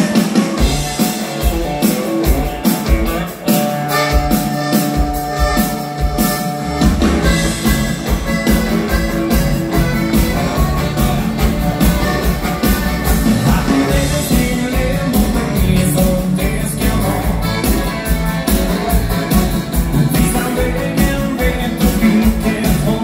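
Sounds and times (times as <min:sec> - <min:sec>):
drum kit dance beat: 0:00.0 - 0:23.0
electric guitar: 0:00.0 - 0:23.0.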